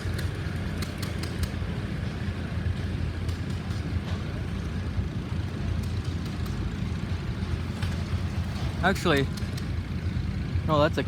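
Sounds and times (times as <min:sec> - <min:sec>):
large engine rumbling: 0:00.0 - 0:11.0.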